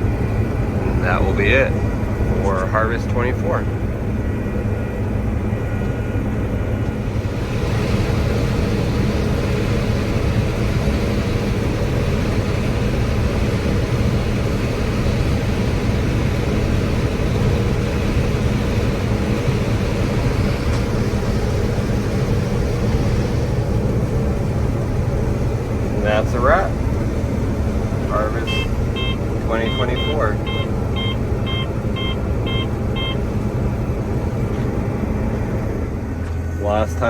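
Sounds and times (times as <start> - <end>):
combine engine drone: 0.0 - 37.0.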